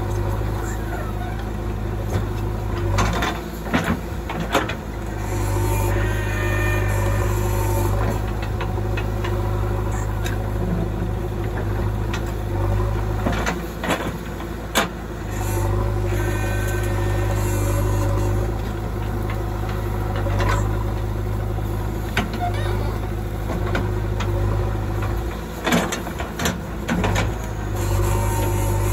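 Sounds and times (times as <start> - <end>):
backhoe diesel engine running: 0.0 - 28.9.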